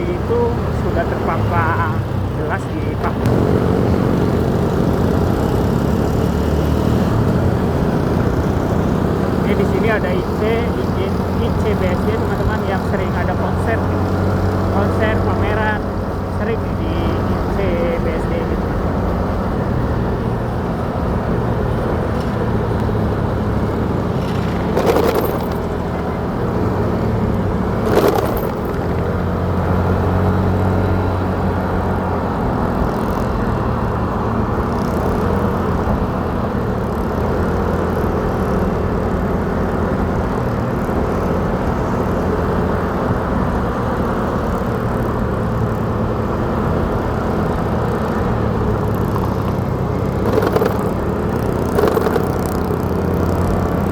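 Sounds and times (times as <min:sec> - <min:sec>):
motorcycle engine cruising: 0:00.0 - 0:53.9
road and wind noise: 0:00.0 - 0:53.9.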